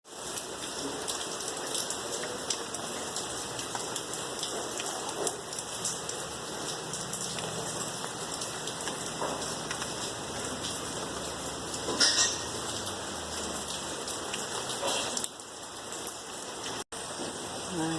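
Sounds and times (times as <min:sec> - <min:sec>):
rain drops hitting a surface: 0:00.0 - 0:17.9.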